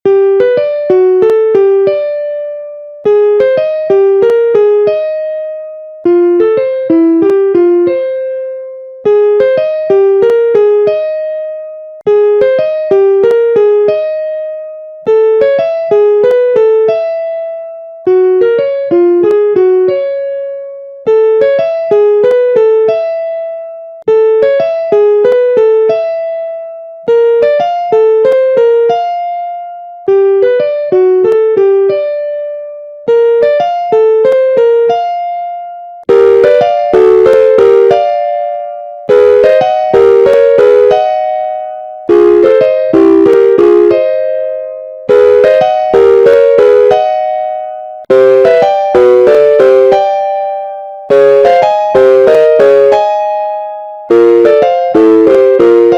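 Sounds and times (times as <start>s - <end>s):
piano jingle: 0.1s - 55.9s.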